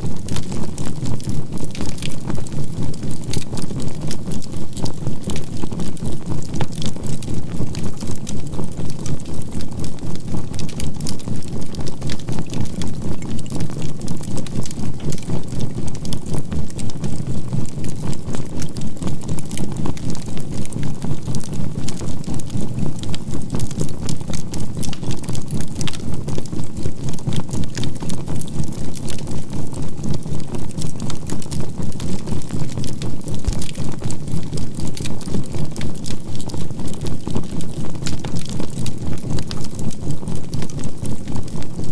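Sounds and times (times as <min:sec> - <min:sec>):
charcoal fire crackling: 0:00.0 - 0:41.9.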